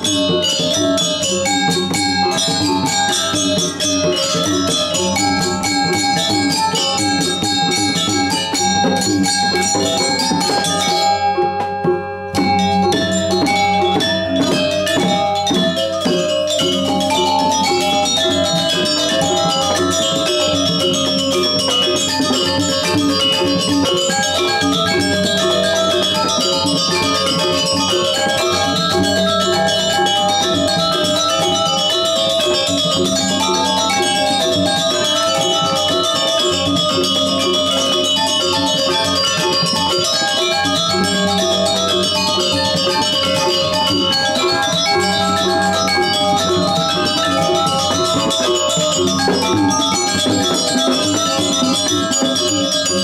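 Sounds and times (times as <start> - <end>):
gamelan metallophones playing: 0.0 - 53.0.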